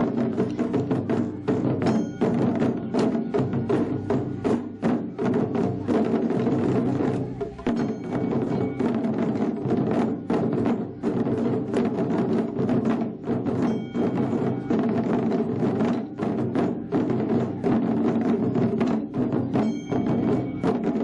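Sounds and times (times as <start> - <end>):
taiko drums playing: 0.0 - 21.0.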